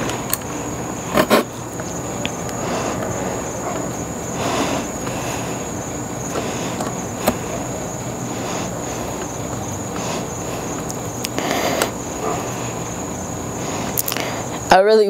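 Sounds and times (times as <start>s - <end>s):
handling noise: 0.0s - 13.0s
faint high whine: 0.0s - 15.0s
steady hiss: 0.0s - 15.0s.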